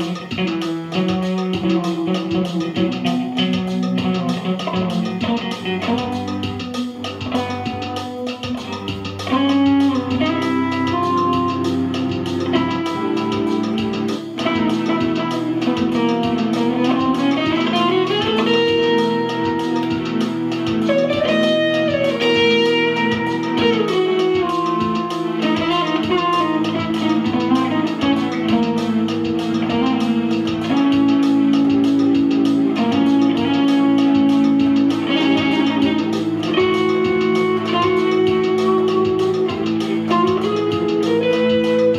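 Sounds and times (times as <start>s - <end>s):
electric guitar with bending notes: 0.0s - 41.9s
electronic keyboard chords: 0.0s - 41.9s.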